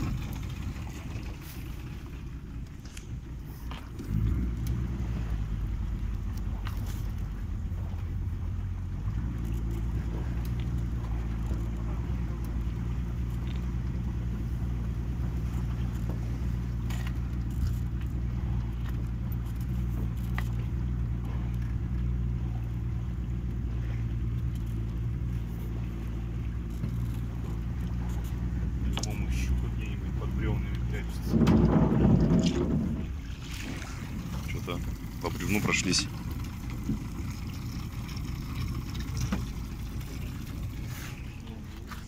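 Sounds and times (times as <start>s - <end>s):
boat motor running: 0.0s - 42.0s.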